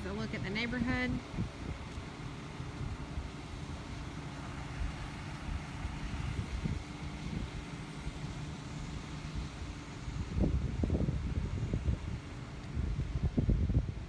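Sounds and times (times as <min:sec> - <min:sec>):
diesel engine running low hum: 0:00.0 - 0:14.0.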